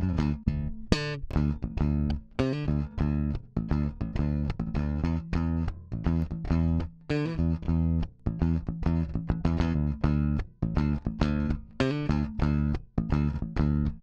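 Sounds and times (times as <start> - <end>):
electric bass guitar plucked notes: 0.0 - 14.0.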